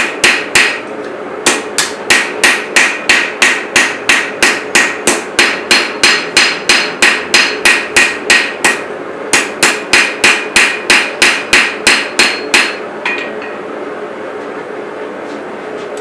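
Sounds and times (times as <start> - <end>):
hammer striking metal on anvil: 0.0 - 13.6.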